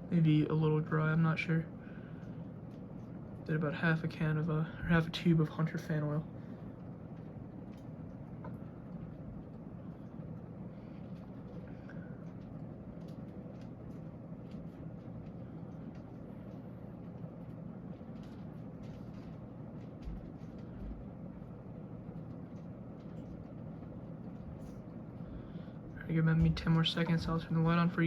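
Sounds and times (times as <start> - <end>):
air rushing from fan blades: 0.0 - 28.0
ceiling fan motor hum: 0.0 - 28.0.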